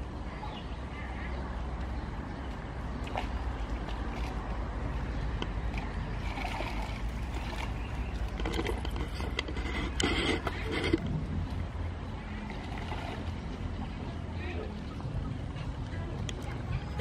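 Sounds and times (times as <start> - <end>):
steady low rumble: 0.0 - 17.0
water splashing and sloshing: 0.0 - 17.0.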